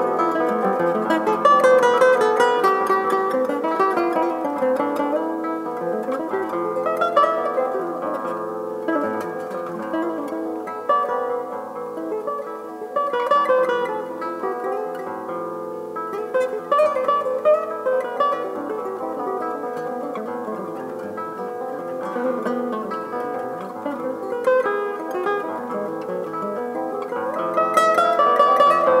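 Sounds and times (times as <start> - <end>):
classical guitar playing: 0.0 - 29.0.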